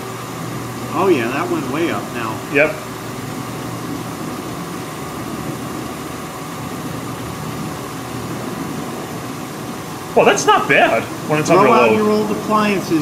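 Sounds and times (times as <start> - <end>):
dishwasher running: 0.0 - 13.0.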